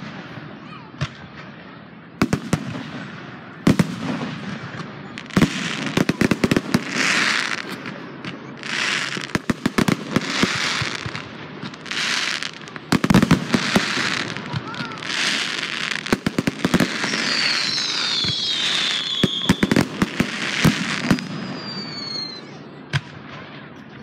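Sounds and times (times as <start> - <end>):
hissing firework crackle: 2.2 - 22.5.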